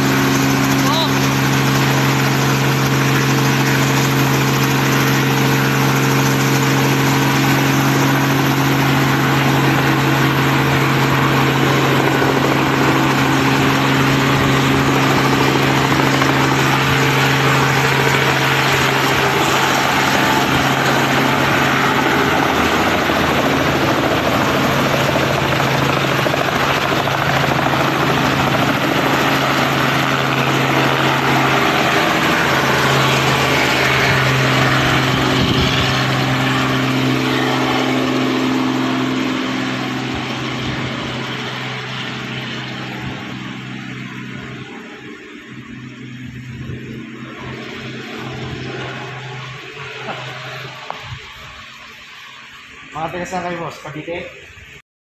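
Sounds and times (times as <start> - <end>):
helicopter engine and rotor drone: 0.0 - 54.8
rotor wash noise: 0.0 - 54.8.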